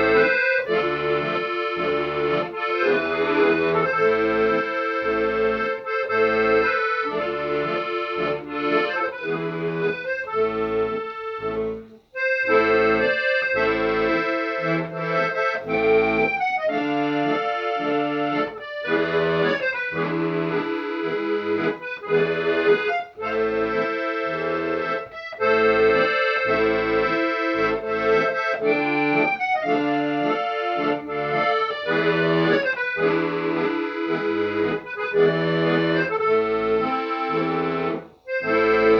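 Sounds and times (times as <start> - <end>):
accordion music: 0.0 - 38.9.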